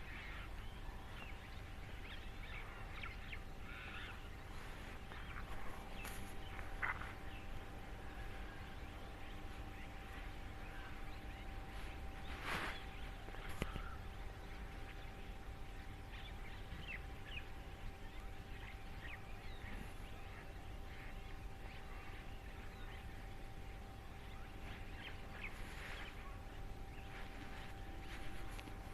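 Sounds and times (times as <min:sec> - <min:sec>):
faint hum: 0:00.0 - 0:28.9
flock of birds chirping: 0:00.0 - 0:28.9.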